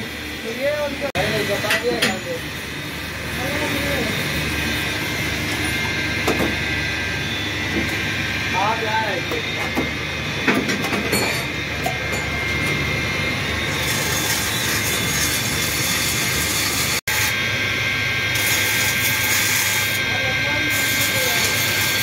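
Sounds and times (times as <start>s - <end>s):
workshop machinery hiss and whine: 0.0s - 22.0s.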